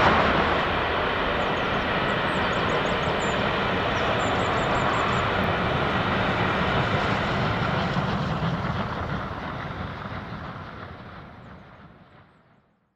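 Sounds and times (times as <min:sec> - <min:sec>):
steam locomotive exhaust: 0:00.0 - 0:12.6
train rumbling: 0:00.0 - 0:12.7.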